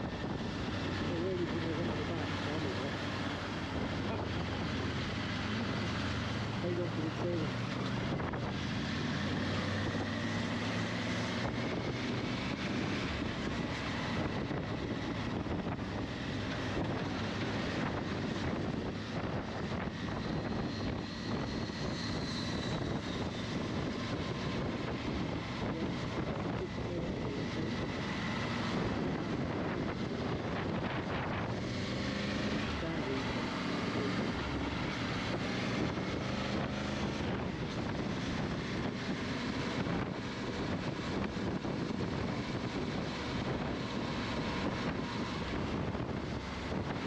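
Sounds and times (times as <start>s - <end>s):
wind on microphone: 0.0s - 6.0s, 7.5s - 47.0s
vehicle running noise: 0.0s - 47.0s.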